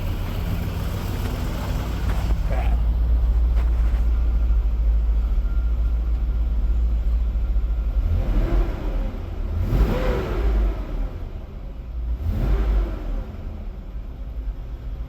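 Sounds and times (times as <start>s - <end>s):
engine rumbling: 0.0s - 15.0s
engine throttle blips: 0.0s - 15.0s.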